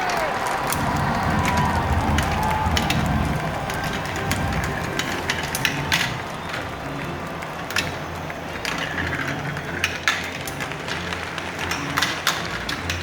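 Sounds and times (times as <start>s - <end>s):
simulated marbles clattering: 0.7s - 13.0s.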